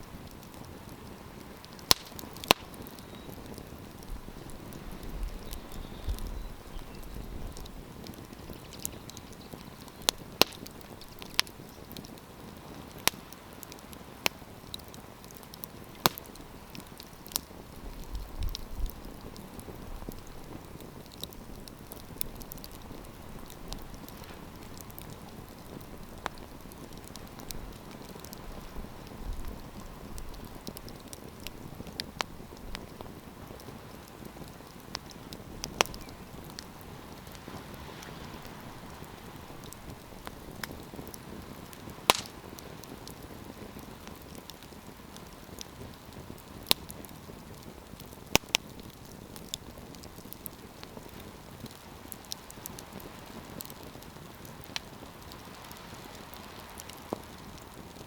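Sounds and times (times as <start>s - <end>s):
soft hiss of burning: 0.0s - 58.0s
campfire pops and snaps: 0.1s - 58.0s.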